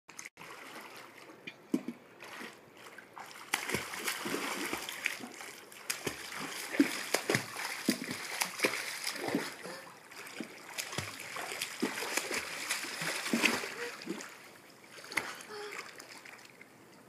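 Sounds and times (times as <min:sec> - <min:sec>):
swimmer splashing water: 0:00.1 - 0:16.8.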